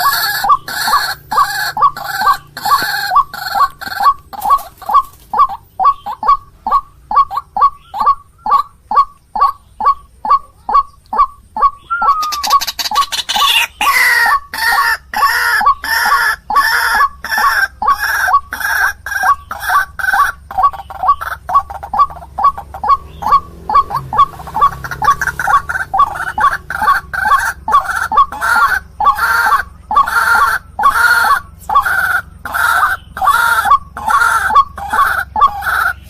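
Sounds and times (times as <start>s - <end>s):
waterhen calling: 0.0s - 36.0s.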